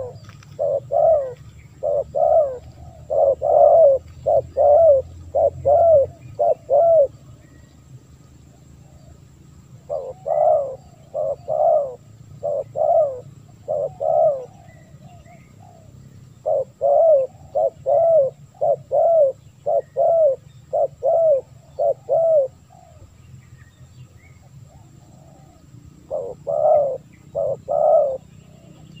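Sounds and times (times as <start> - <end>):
dove cooing: 0.0 - 7.6, 8.5 - 23.2, 24.2 - 29.0.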